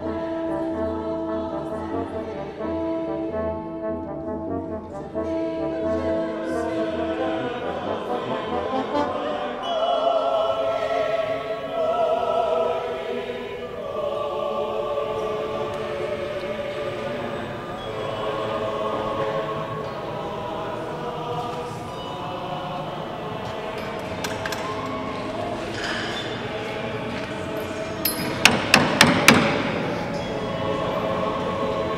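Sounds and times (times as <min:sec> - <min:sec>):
choir singing: 0:00.0 - 0:31.9.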